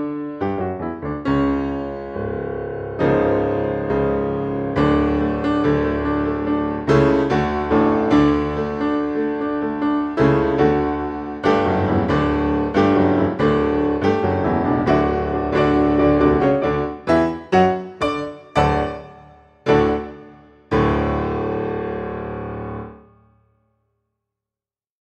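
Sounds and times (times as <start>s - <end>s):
gentle piano music: 0.0s - 23.3s.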